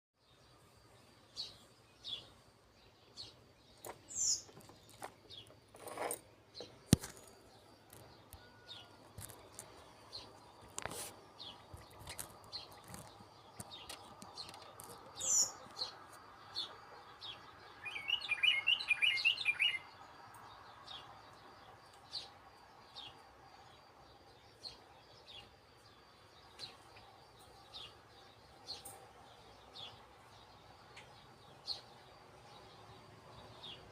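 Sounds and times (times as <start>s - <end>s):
wild birds chirping: 0.2s - 33.9s.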